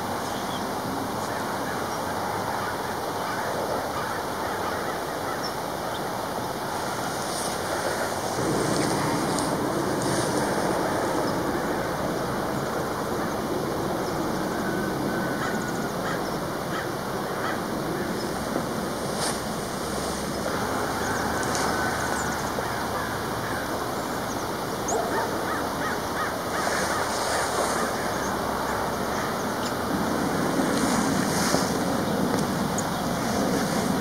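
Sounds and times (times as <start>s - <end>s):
wind rushing on microphone: 5.5s - 34.0s.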